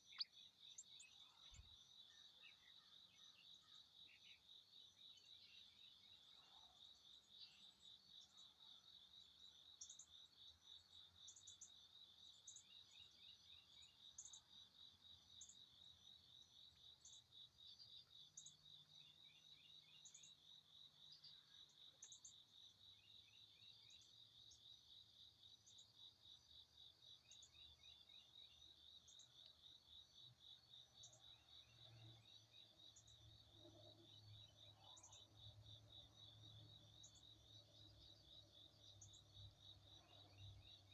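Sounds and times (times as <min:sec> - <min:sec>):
insect trill: 0:00.0 - 0:40.9.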